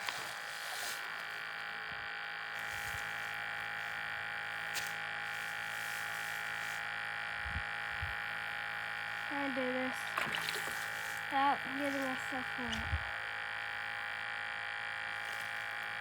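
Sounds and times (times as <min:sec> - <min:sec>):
steady buzzing hum: 0:00.0 - 0:16.0.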